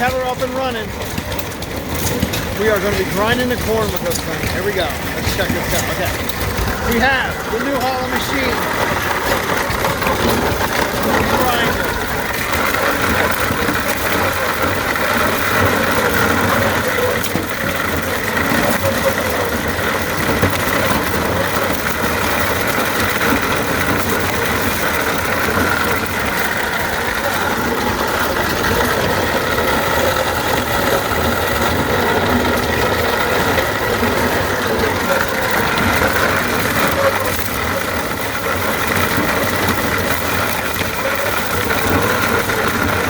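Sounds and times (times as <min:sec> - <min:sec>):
corn grinder grinding: 0:00.0 - 0:43.0
engine running: 0:00.0 - 0:43.0.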